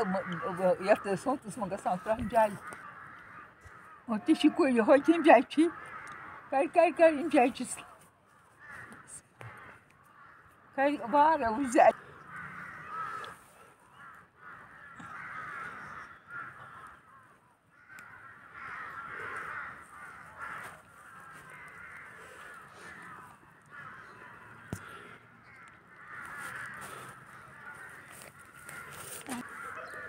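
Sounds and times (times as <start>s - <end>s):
flock of birds calling: 0.0s - 30.0s.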